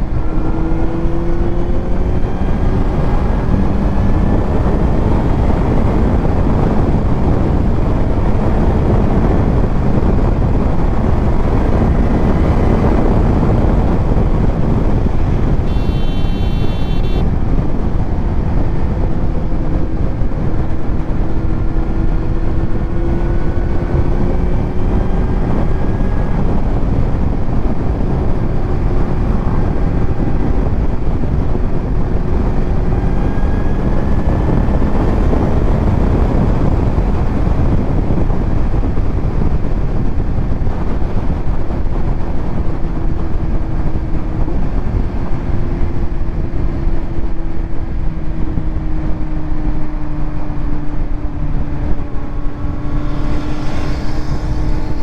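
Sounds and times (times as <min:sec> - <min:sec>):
wind noise on microphone: 0:00.0 - 0:55.0
motorcycle engine running: 0:01.0 - 0:55.0.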